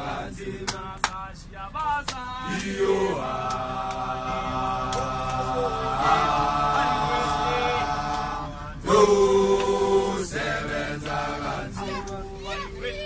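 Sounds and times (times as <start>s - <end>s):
group singing a cappella: 0.0s - 1.3s, 2.3s - 12.6s.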